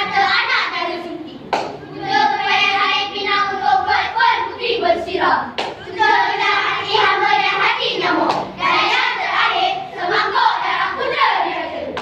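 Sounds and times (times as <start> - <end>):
children's choir speaking in unison: 0.0 - 12.0.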